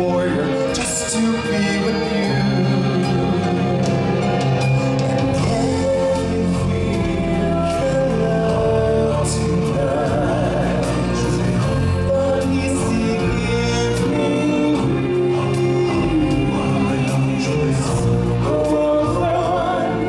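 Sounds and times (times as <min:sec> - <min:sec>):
instrumental backing music: 0:00.0 - 0:20.0.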